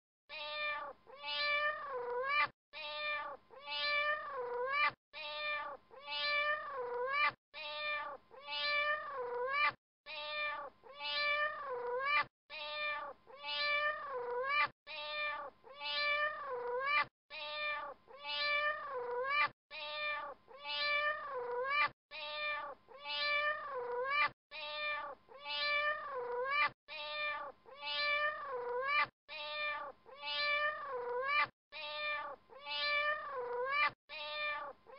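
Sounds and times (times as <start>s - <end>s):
cat meowing: 0.3s - 34.9s.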